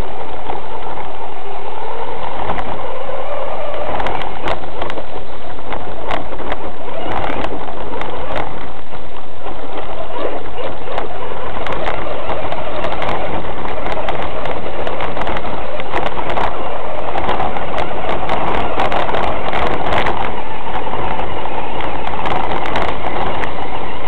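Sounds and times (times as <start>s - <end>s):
toy car drivetrain and tyre noise: 0.0s - 24.0s.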